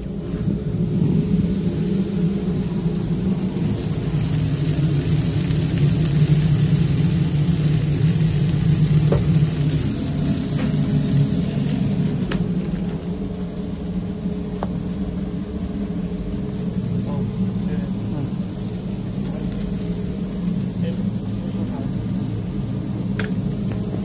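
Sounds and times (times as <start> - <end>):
burgers sizzling on grill: 0.0 - 24.0
low machine hum: 0.0 - 24.0.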